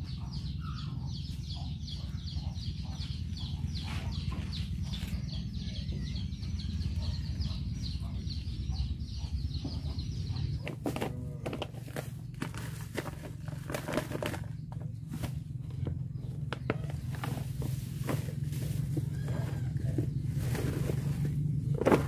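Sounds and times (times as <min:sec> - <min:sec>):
chicks peeping: 0:00.0 - 0:22.0
low steady rumble: 0:00.0 - 0:22.0.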